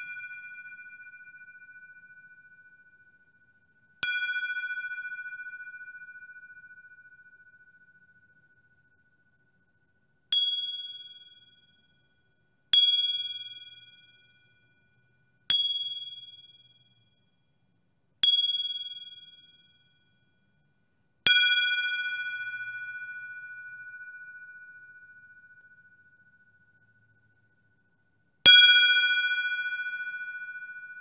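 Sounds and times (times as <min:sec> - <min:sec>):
faint steady tone: 0:00.0 - 0:31.0.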